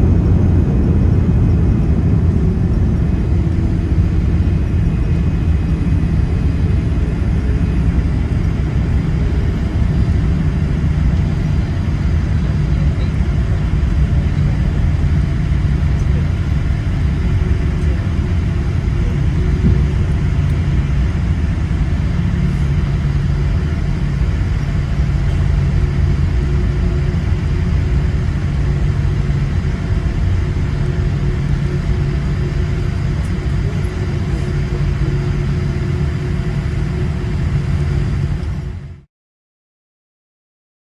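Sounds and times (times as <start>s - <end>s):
airliner cabin rumble: 0.0s - 39.1s.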